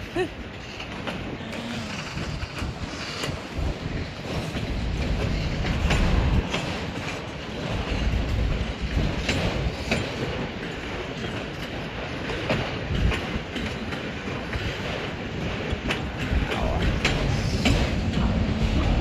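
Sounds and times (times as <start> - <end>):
train wheels rumbling on rail: 0.0 - 19.0
wheels clacking over rail joint: 0.5 - 19.0.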